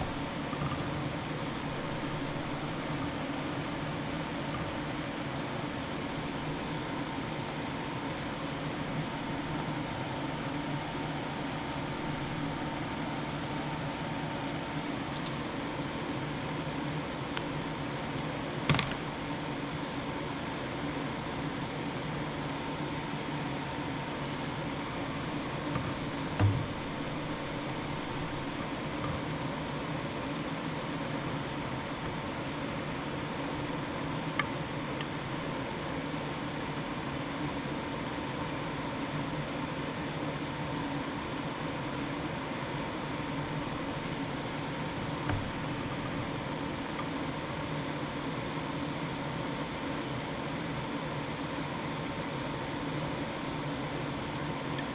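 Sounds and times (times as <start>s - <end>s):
small fan hum: 0.0s - 54.9s.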